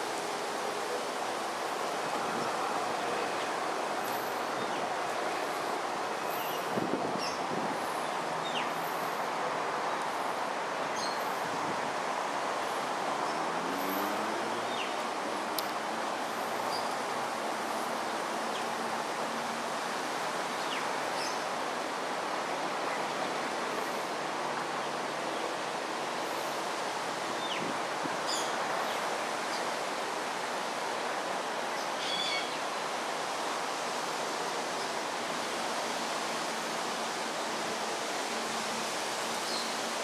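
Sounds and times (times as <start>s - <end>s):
steady rushing outdoor noise: 0.0s - 40.0s.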